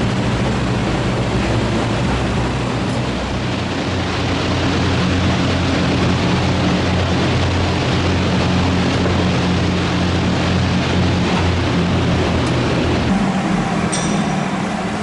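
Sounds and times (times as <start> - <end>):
even rushing noise: 0.0 - 15.0
loud mechanical hum: 0.0 - 15.0.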